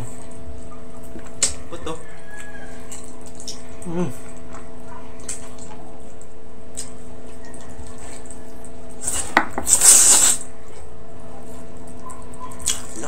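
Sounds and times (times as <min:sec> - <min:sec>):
background hum: 0:00.0 - 0:13.0
person chewing wetly: 0:00.0 - 0:13.0.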